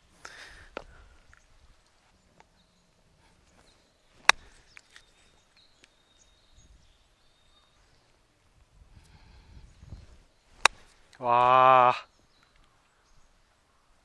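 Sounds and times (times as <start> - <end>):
faint high bird calls: 0.0 - 8.4, 9.1 - 14.0.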